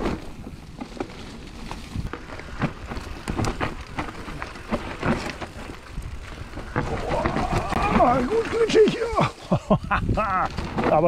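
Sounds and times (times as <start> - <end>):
bike knocking and rattling: 0.0 - 11.0
bike tyres rolling on dirt: 0.0 - 11.0.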